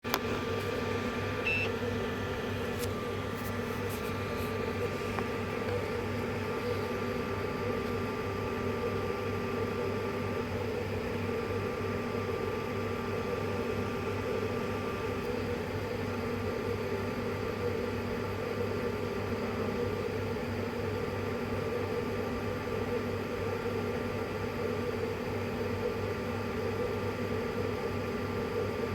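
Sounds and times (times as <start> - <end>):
printer mechanical hum: 0.0 - 28.9.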